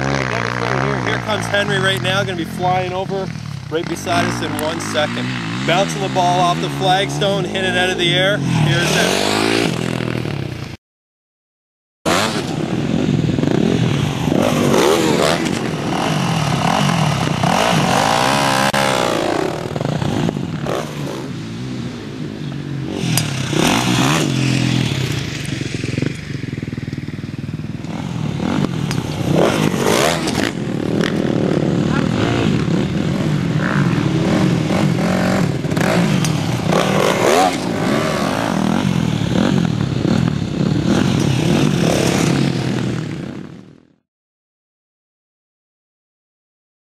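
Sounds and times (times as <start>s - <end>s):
dirt bike engines revving: 0.0s - 10.8s, 12.1s - 43.8s.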